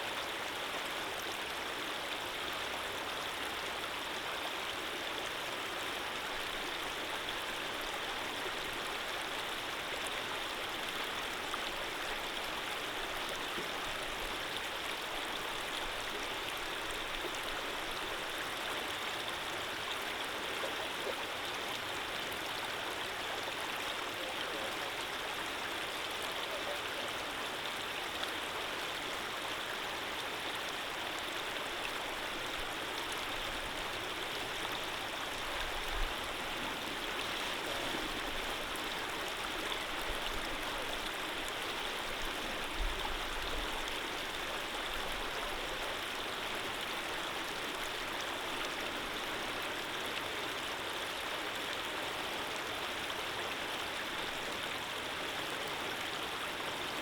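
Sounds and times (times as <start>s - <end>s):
gentle stream flowing: 0.0s - 57.0s.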